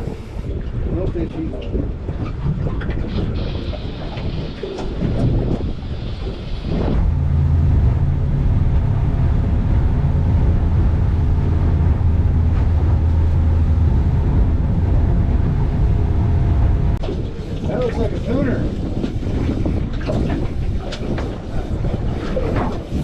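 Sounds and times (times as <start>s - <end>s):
water wash: 0.0s - 23.0s
wind: 0.0s - 23.0s
boat engine drone: 2.8s - 23.0s.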